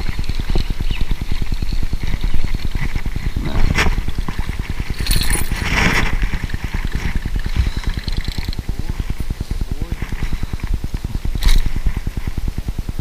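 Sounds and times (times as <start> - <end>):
low fluttering rumble: 0.0 - 13.0.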